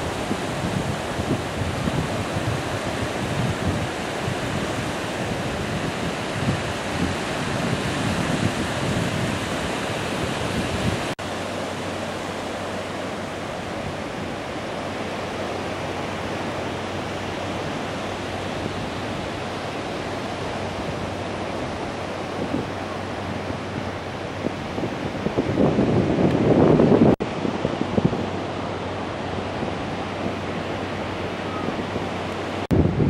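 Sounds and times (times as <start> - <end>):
surf washing on beach: 0.0 - 33.0
wind buffeting microphone: 0.0 - 33.0.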